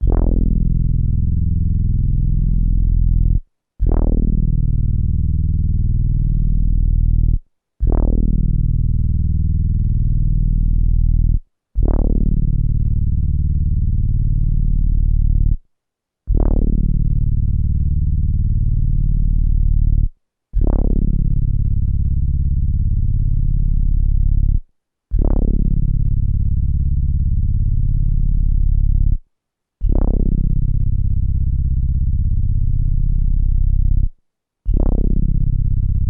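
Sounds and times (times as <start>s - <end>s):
low filtered synthesizer note: 0.0s - 15.6s, 16.3s - 29.2s, 29.8s - 34.1s.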